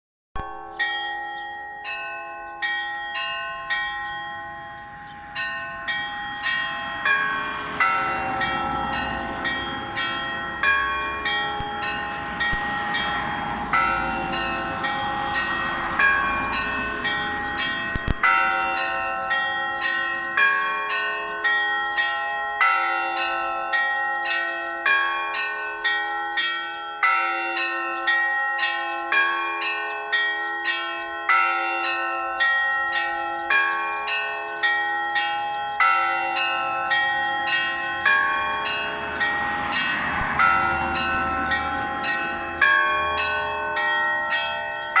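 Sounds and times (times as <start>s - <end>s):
large bells ringing: 0.4s - 45.0s
small church bells struck rhythmically: 0.4s - 45.0s.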